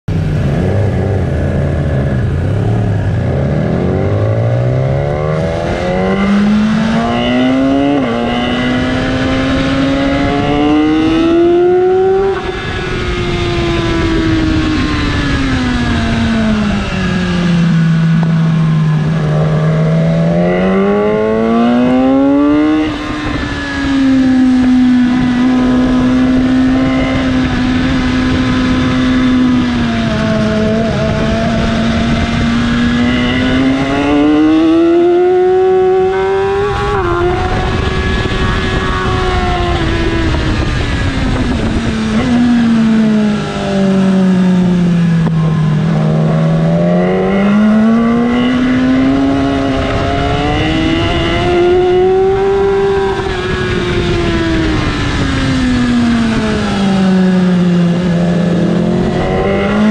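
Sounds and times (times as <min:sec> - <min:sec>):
motorcycle engine accelerating: 0:00.0 - 0:59.9
wind noise: 0:00.1 - 0:59.9.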